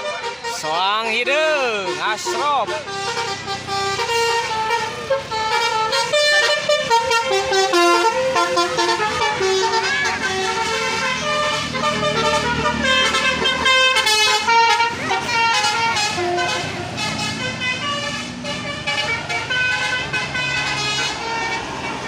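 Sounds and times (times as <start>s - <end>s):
multi-tone air horn melody: 0.0s - 22.0s.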